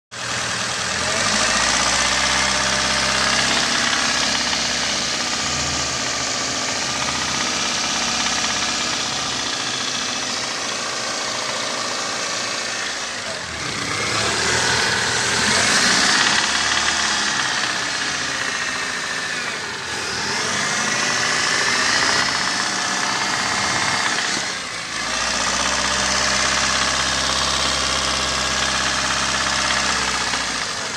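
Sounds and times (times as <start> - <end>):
engine idling and revving: 0.1 - 30.9.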